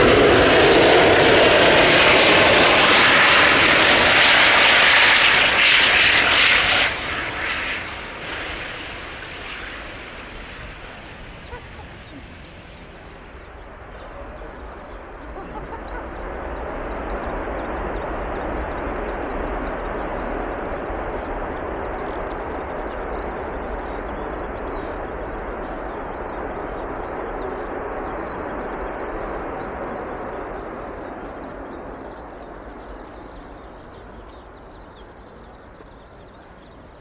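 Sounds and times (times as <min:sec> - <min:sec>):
jet engines rushing: 0:00.0 - 0:37.0
birds chirping: 0:04.7 - 0:37.0.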